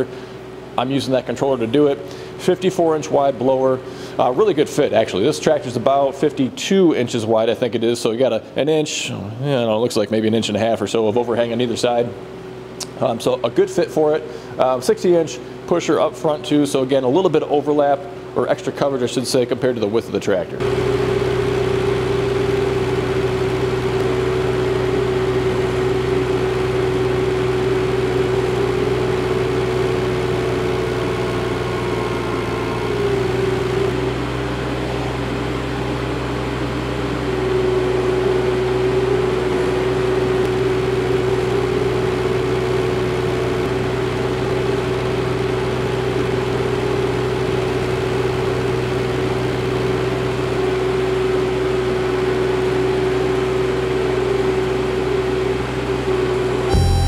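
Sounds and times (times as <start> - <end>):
tractor diesel engine droning: 0.0 - 7.5, 10.6 - 57.0.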